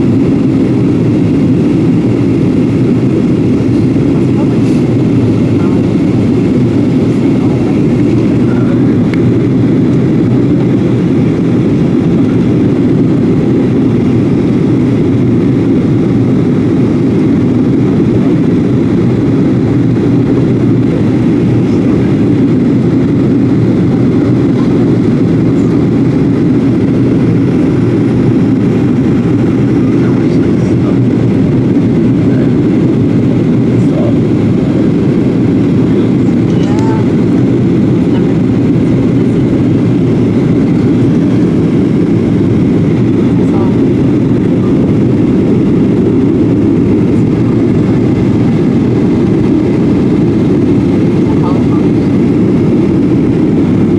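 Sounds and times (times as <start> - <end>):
jet cabin engine rumble: 0.0 - 53.9.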